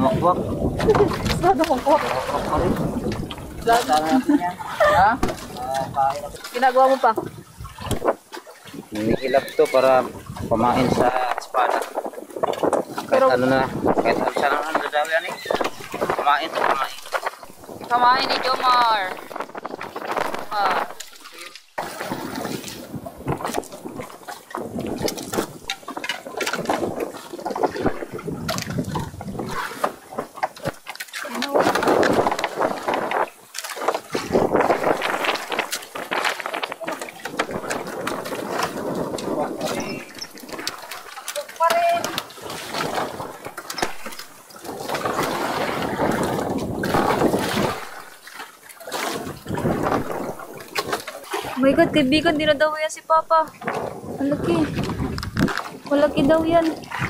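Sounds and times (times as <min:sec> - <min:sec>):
water splashing and sloshing: 0:00.0 - 0:57.0.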